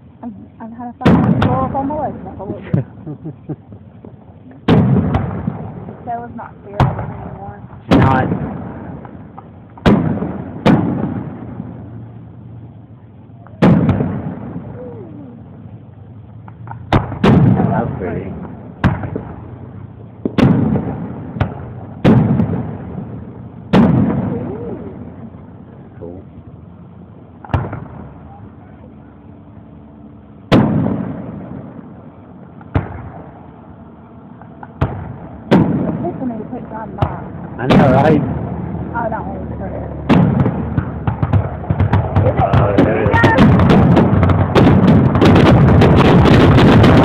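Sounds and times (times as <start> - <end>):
firework shells booming: 0.0 - 28.8, 30.2 - 47.0.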